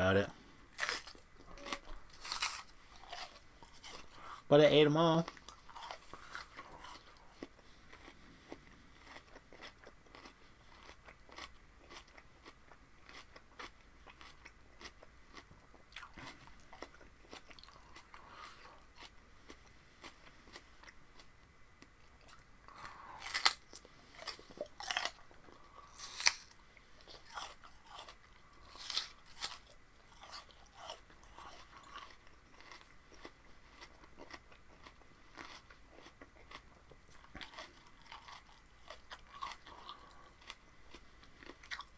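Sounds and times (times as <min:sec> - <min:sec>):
person chewing: 0:00.3 - 0:04.5, 0:05.2 - 0:41.9
crunchy bites of vegetables: 0:00.7 - 0:04.4, 0:05.3 - 0:41.9.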